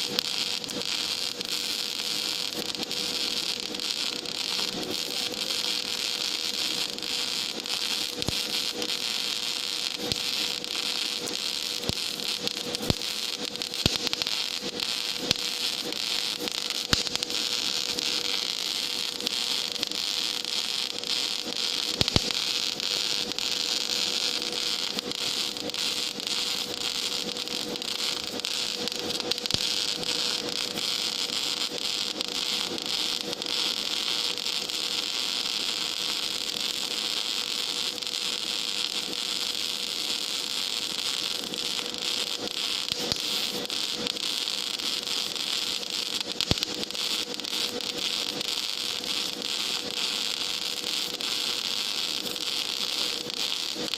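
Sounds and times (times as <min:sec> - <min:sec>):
welding arc crackling hiss: 0:00.0 - 0:53.9.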